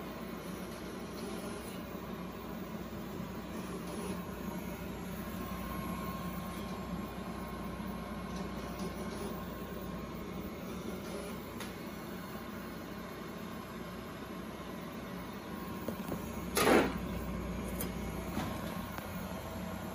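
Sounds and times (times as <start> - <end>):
electrical hum and hiss: 0.0 - 19.9.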